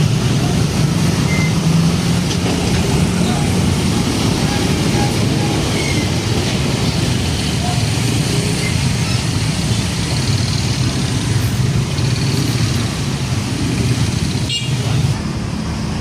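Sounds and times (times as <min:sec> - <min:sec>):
road traffic: 0:00.0 - 0:16.0
truck diesel engine rumbling: 0:00.0 - 0:16.0
tyre and road noise: 0:00.0 - 0:16.0.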